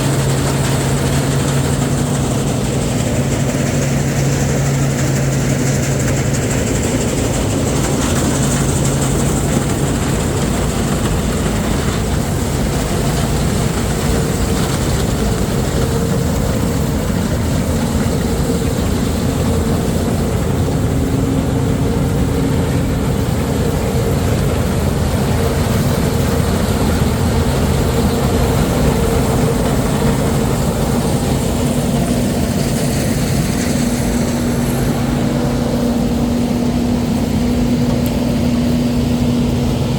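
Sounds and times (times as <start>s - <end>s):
heavy farm machinery engines: 0.0s - 39.9s.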